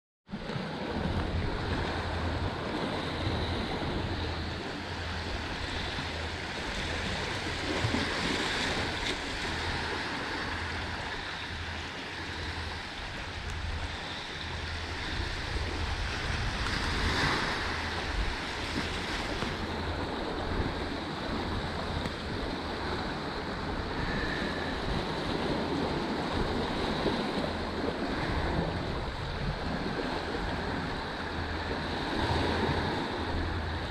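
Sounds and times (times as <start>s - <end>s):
wind buffeting microphone: 0.3s - 33.9s
surf washing into rocky cove: 0.4s - 33.9s.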